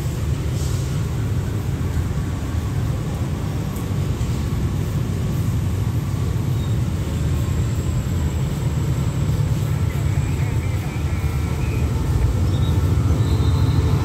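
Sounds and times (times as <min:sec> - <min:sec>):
low rumble of distant vehicles: 0:00.0 - 0:14.0.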